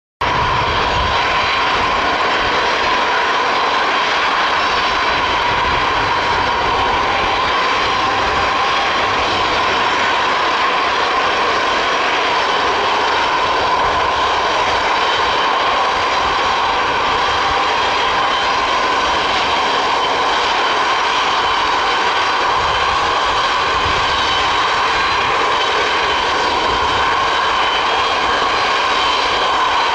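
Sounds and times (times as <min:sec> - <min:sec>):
jet engines whining: 0:00.2 - 0:29.9.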